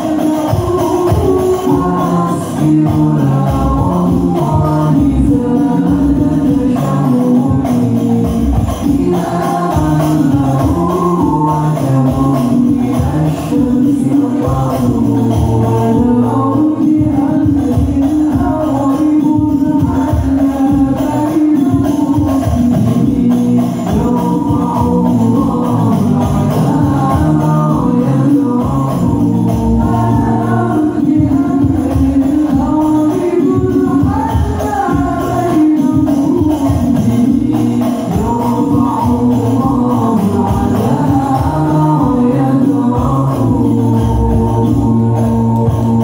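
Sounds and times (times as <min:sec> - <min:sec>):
frame drums: 0:00.0 - 0:46.0
men singing together: 0:00.0 - 0:46.0.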